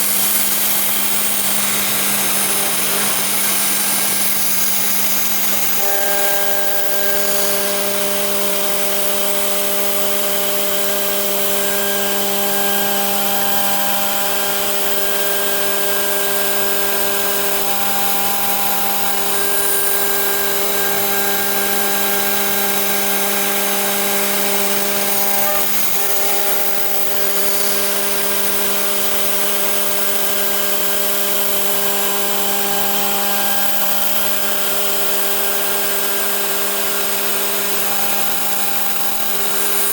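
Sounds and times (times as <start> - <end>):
cutter whining tones: 0.0 - 39.9
router spindle humming: 0.0 - 39.9.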